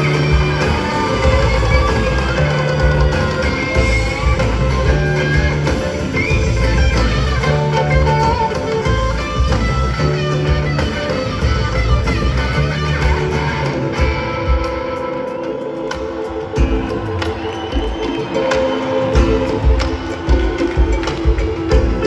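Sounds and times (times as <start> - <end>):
live band instrumental music: 0.0 - 22.0
melodic guitar line: 0.0 - 22.0.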